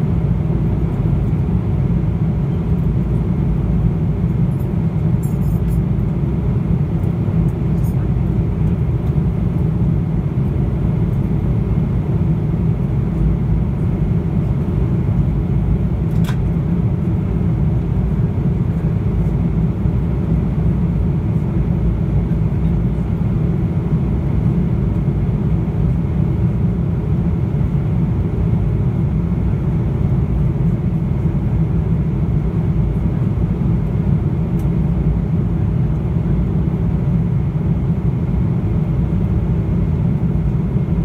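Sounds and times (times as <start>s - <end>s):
aircraft cabin engine rumble: 0.0s - 41.0s.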